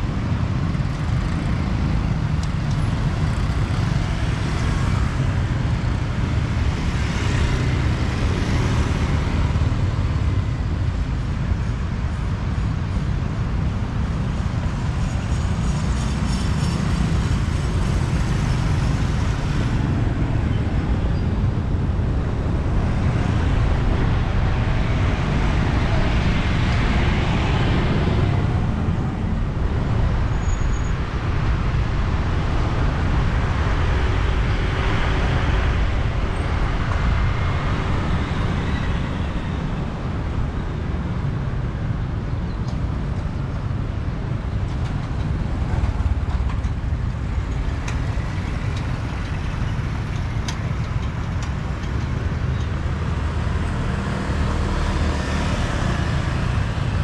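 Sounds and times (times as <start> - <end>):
road traffic rumble: 0.0 - 57.0
vehicles passing: 0.0 - 57.0.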